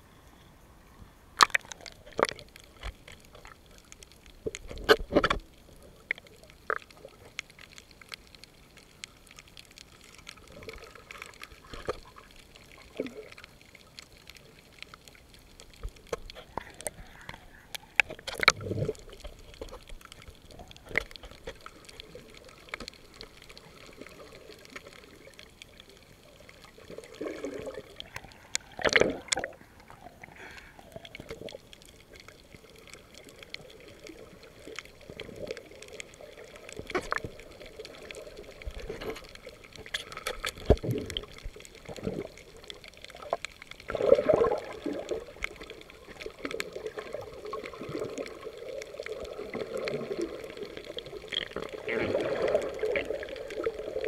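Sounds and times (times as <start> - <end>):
water swishes: 0.0 - 54.0
muffled underwater bubbling: 9.0 - 54.0.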